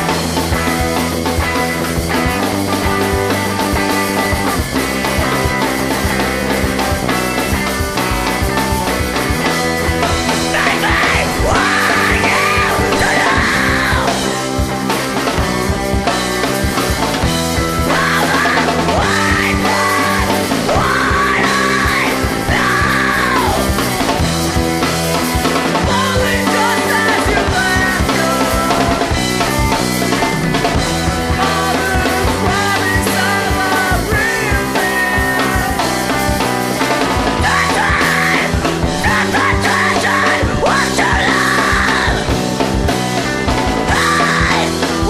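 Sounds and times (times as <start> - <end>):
rock music with singing: 0.0 - 45.0.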